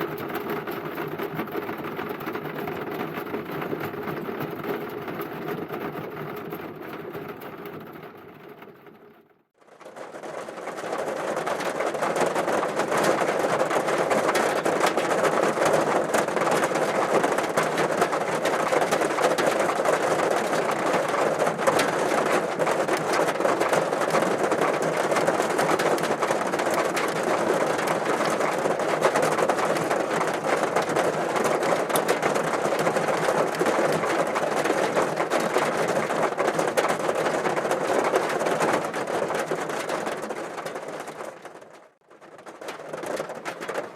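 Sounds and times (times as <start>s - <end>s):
heavy rain on car roof: 0.0s - 7.8s, 9.6s - 43.9s.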